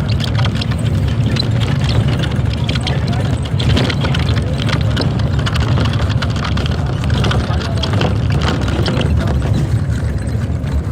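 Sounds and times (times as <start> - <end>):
indistinct voices: 0.0 - 10.9
vehicle engine rumbling: 0.0 - 10.9.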